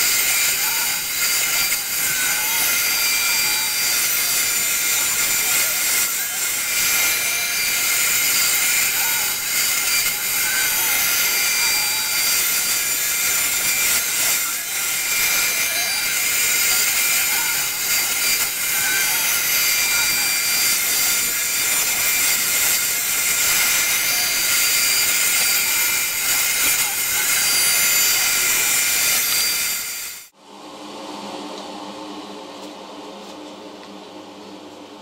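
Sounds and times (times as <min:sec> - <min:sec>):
bit cutting wood hiss: 0:00.0 - 0:30.3
router spindle high whine: 0:00.0 - 0:30.3.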